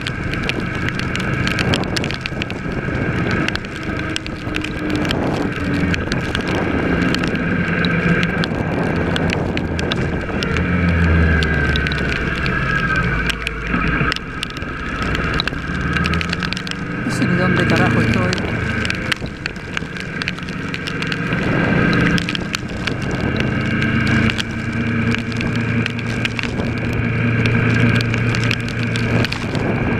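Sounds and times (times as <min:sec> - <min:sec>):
sharp ticks: 0:00.0 - 0:29.9
wind rushing over microphone: 0:00.0 - 0:29.9.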